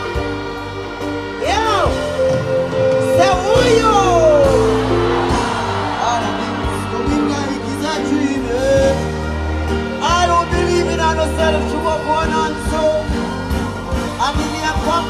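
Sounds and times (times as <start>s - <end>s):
live music through sound system: 0.0s - 15.0s.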